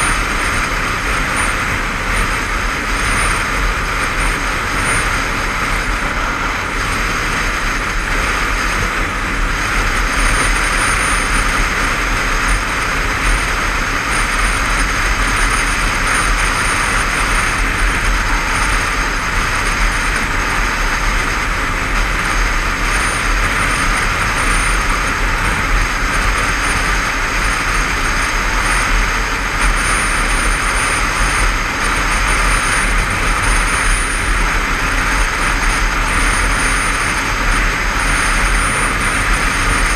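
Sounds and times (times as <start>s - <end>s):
motorcycle engine running: 0.0s - 39.9s
wind rush and road noise: 0.0s - 39.9s.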